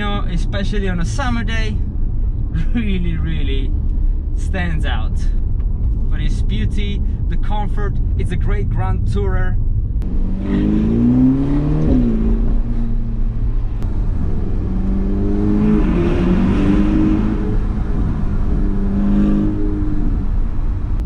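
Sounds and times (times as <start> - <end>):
car engine accelerating: 0.0 - 21.0
road and wind noise: 0.0 - 21.0.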